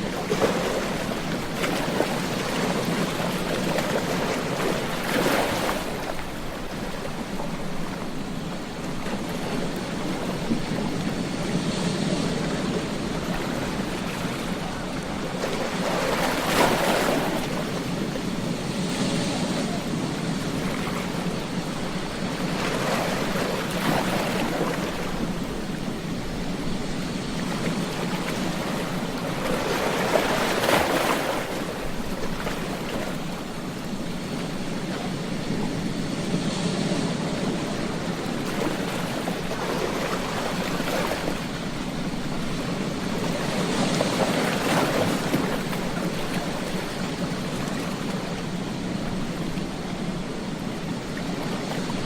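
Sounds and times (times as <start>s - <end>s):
ocean waves breaking on beach: 0.0s - 52.0s.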